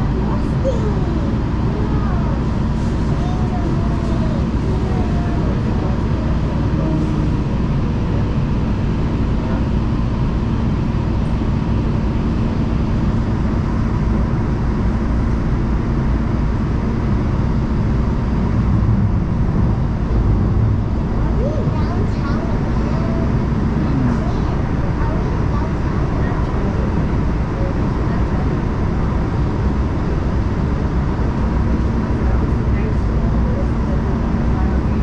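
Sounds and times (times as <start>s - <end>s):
train rumbling along track: 0.0s - 35.0s.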